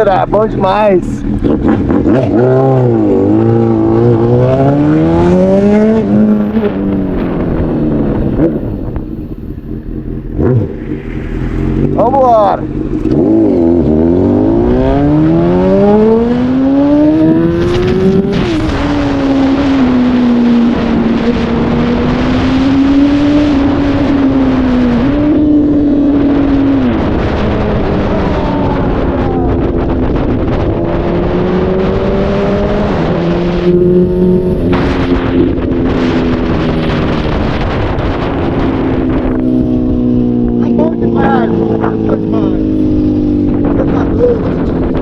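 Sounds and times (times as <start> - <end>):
motorcycle engine accelerating: 0.0 - 45.0
wind rush over microphone: 0.0 - 45.0.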